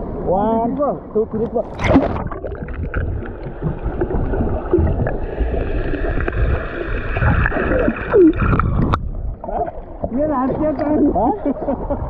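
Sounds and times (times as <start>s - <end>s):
seawater sloshing and gurgling: 1.2s - 12.0s
wind rumbling on microphone: 1.3s - 12.0s.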